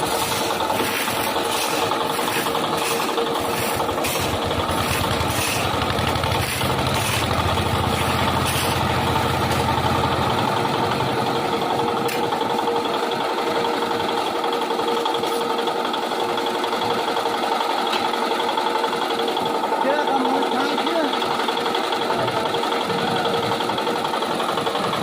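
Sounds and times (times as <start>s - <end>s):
construction machinery engine whine: 0.0s - 25.0s.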